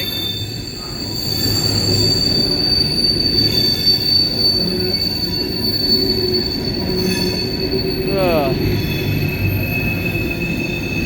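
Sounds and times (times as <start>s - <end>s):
train rolling rumble: 0.0s - 11.0s
train wheels squealing on rail: 0.0s - 11.0s.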